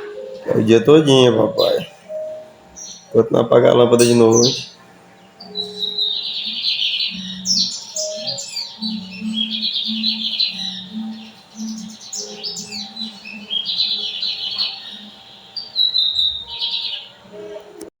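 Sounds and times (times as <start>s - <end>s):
bird twittering song: 0.0s - 17.3s.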